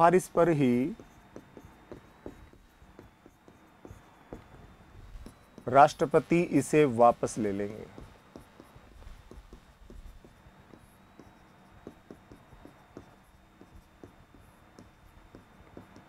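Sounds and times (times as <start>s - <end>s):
chalk writing on chalkboard: 0.0s - 16.0s.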